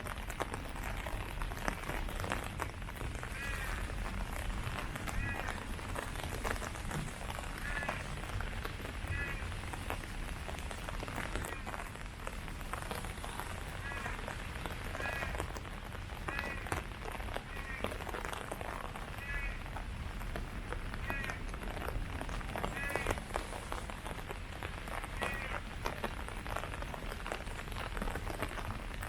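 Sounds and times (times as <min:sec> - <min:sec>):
rain falling on leaves: 0:00.0 - 0:29.0.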